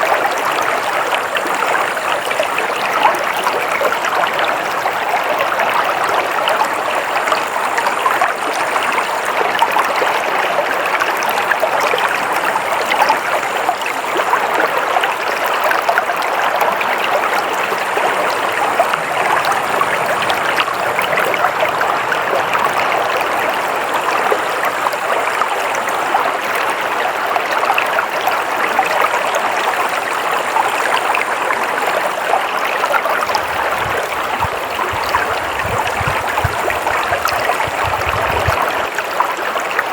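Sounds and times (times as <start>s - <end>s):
crackling water trickles: 0.0s - 39.9s
stream water flowing: 0.0s - 39.9s.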